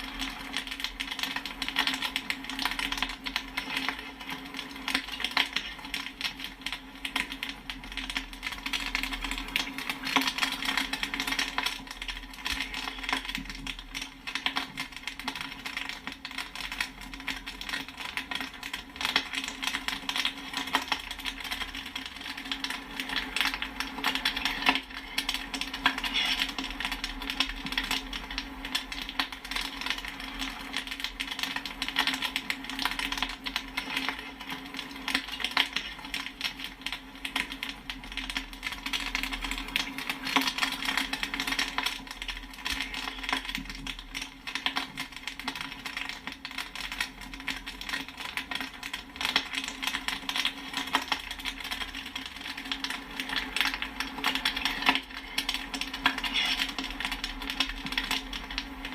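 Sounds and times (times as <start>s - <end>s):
popcorn popping: 0.0s - 58.9s.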